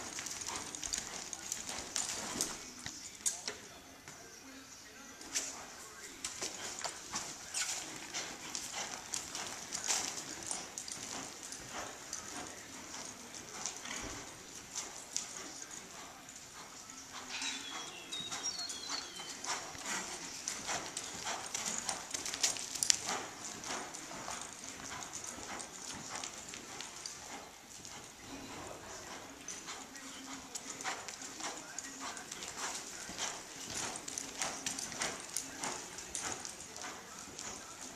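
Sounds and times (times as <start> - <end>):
horse hoofbeats on sand: 0.0 - 3.2, 5.2 - 37.9.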